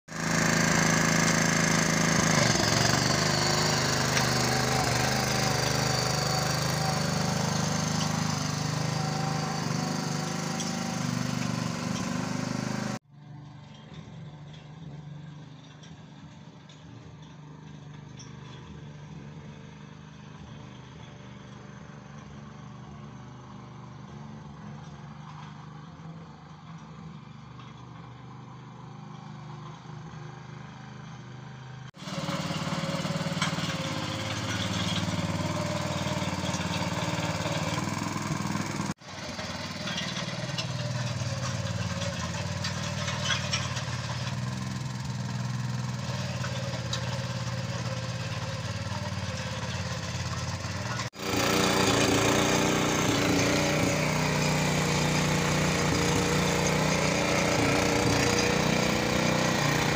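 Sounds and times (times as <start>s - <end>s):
tiller engine running: 0.1s - 59.9s.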